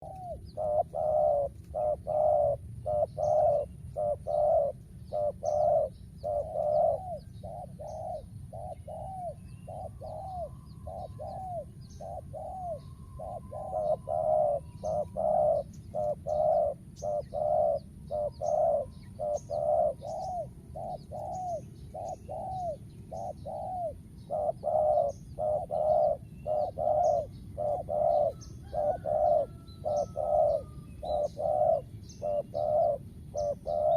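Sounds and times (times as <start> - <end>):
doves cooing: 0.0 - 33.9
small birds chirping: 0.0 - 33.9.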